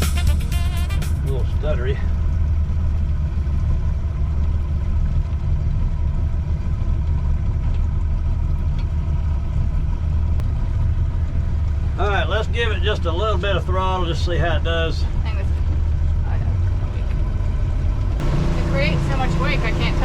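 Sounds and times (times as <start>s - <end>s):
outboard motor droning: 0.0s - 20.0s.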